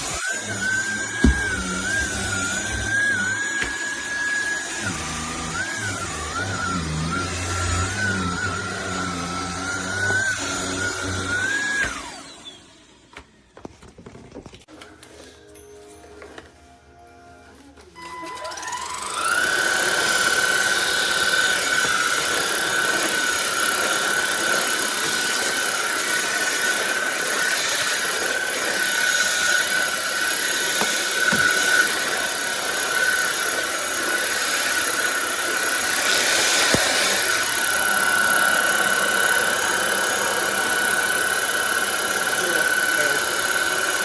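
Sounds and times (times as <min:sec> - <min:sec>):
stick vacuum motor whine: 0:00.0 - 0:13.7, 0:18.0 - 0:44.0.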